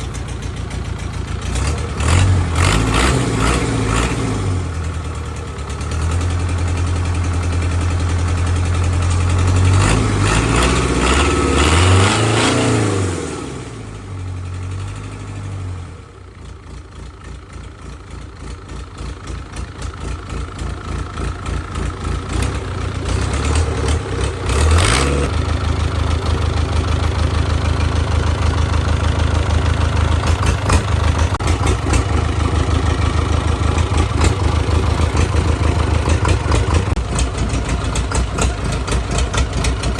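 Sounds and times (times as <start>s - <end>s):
diesel engine revving: 1.4s - 16.2s, 21.4s - 39.9s.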